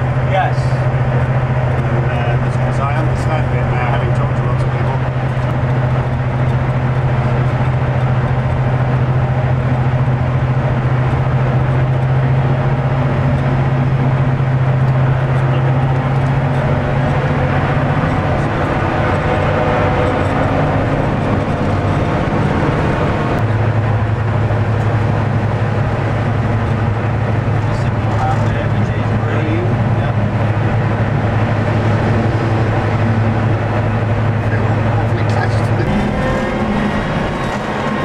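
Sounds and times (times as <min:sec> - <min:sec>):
locomotive engines droning: 0:00.0 - 0:38.0
rail running noise: 0:00.0 - 0:38.0.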